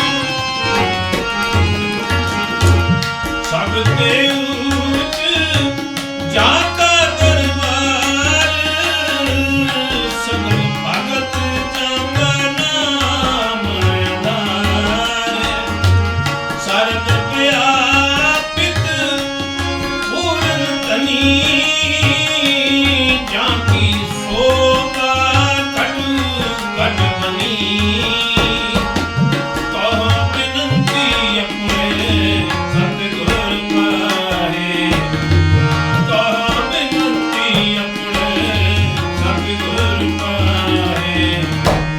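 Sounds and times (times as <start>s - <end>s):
tabla rhythm: 0.0s - 41.9s.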